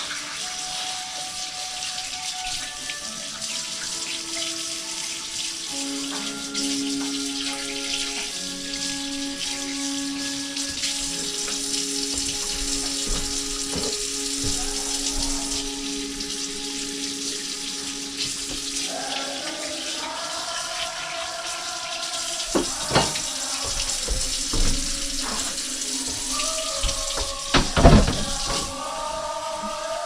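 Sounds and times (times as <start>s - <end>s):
tap water running into a sink: 0.0s - 29.8s
music with held notes: 0.0s - 30.0s.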